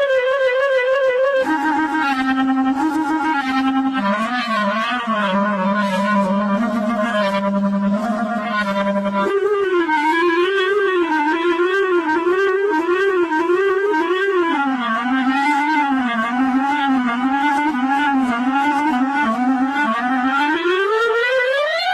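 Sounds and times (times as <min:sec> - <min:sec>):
reedy musical tone wavering: 0:00.0 - 0:21.9.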